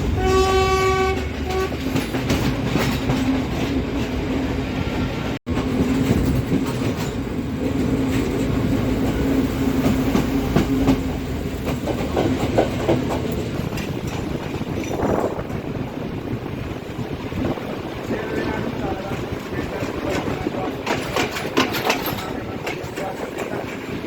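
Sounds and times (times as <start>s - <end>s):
train drone: 0.0s - 24.0s
train wheels clattering over rail joints: 0.6s - 24.0s.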